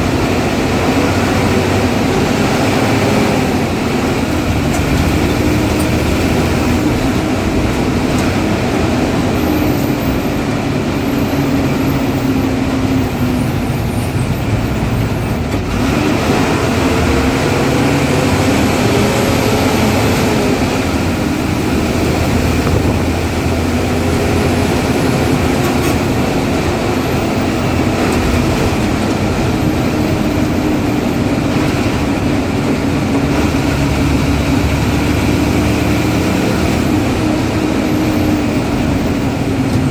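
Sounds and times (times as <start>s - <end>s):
diesel bus engine running hard: 0.0s - 39.9s
heavy road noise: 0.0s - 39.9s.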